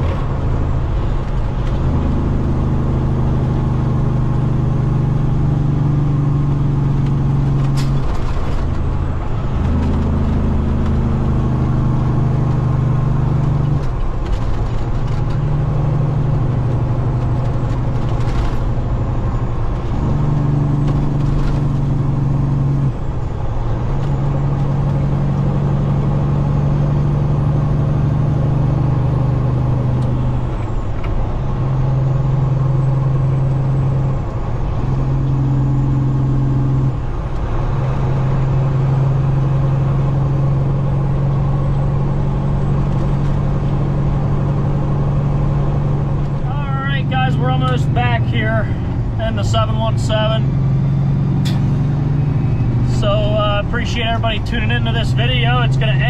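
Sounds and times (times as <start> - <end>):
truck diesel engine droning: 0.0 - 56.0.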